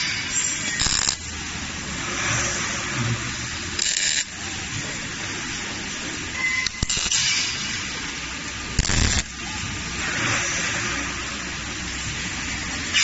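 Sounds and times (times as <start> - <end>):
welding arc hiss and crackle: 0.0 - 13.0.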